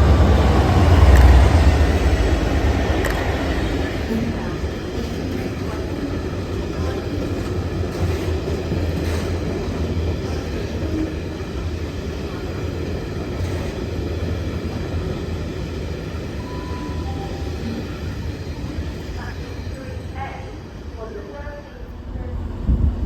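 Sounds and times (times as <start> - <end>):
train passing with low rumble: 0.0 - 23.0.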